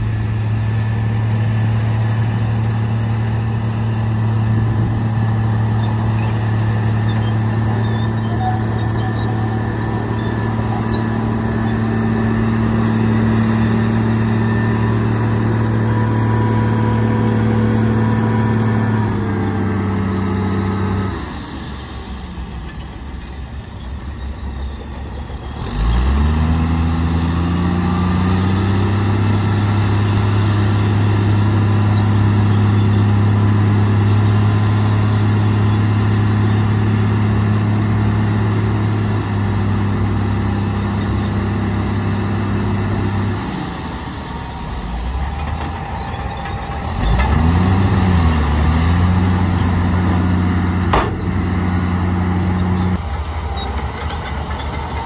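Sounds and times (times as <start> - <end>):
truck diesel engine revving: 0.0 - 22.5, 25.5 - 55.0.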